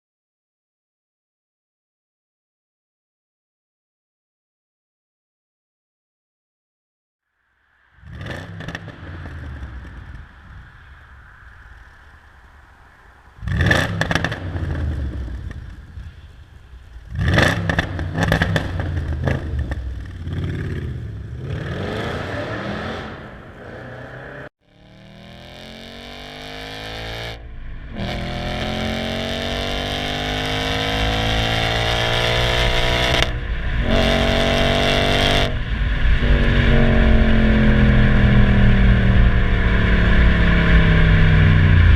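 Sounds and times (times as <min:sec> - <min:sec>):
car engine revving and accelerating: 0:08.0 - 0:41.9.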